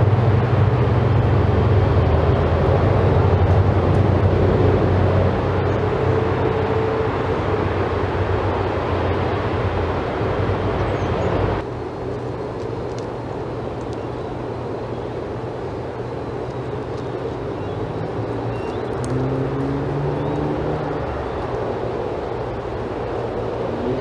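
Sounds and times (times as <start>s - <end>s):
low hum: 0.0s - 24.0s
outdoor rumble and hiss: 0.0s - 24.0s.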